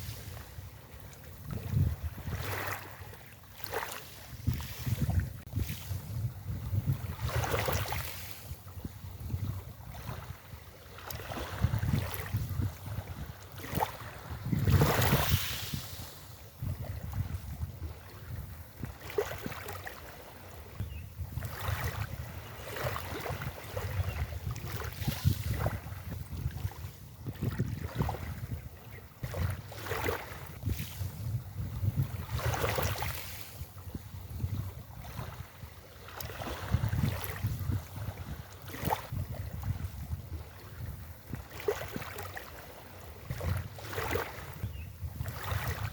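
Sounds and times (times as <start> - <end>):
waves breaking on beach: 0.0 - 45.9
wind buffeting microphone: 0.0 - 45.9.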